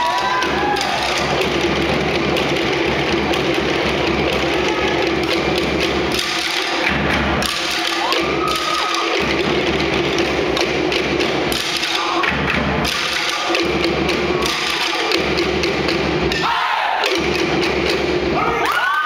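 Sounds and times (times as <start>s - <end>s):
bass drum: 0.0s - 18.5s
wooden slit drums: 0.0s - 19.0s.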